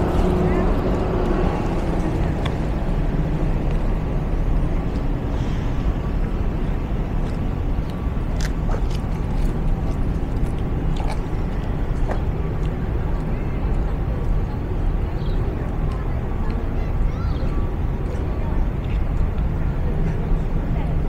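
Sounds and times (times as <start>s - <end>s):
low rumble of city ambience: 0.0s - 21.0s.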